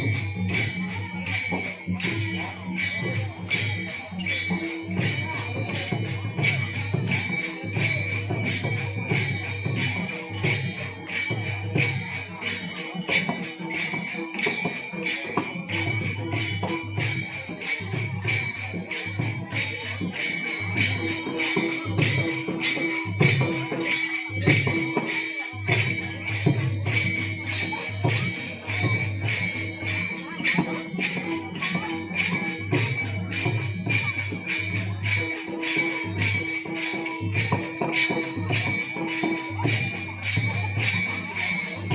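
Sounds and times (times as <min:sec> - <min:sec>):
hand cymbals clashing: 0:00.0 - 0:41.9.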